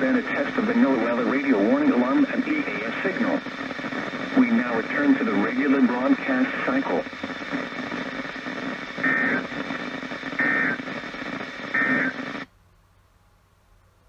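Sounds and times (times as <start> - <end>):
radio static: 0.0 - 12.5.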